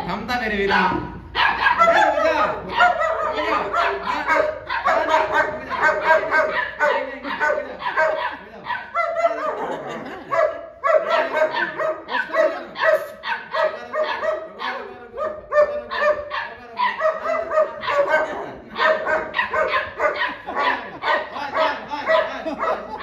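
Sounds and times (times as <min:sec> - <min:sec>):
puppy barking and yapping: 0:00.7 - 0:23.0.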